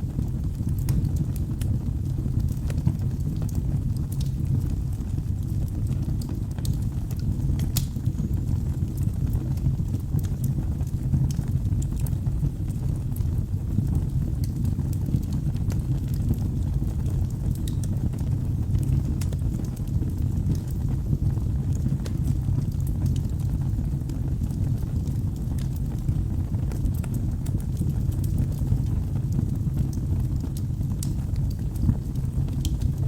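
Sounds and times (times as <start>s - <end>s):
low rumble of flames: 0.0s - 33.0s
sharp fire crackles: 0.0s - 33.0s.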